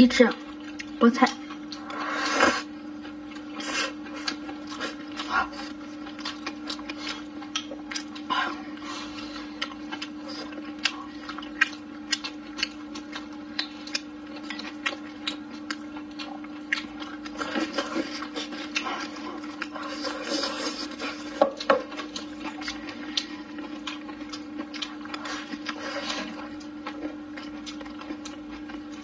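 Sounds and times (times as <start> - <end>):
steady low hum: 0.0 - 29.0
chewing and lip-smacking: 0.1 - 29.0.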